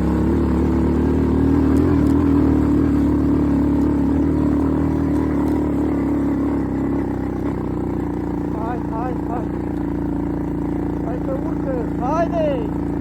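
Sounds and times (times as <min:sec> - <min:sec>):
atv engine at high throttle: 0:00.0 - 0:13.0.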